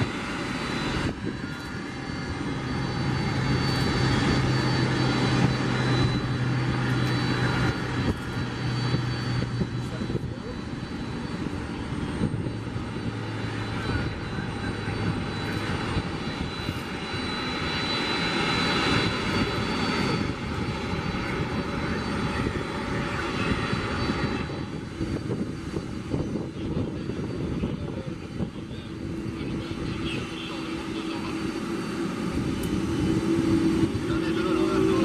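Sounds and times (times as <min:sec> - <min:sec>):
turboprop airliner engine roar: 0:00.0 - 0:35.0.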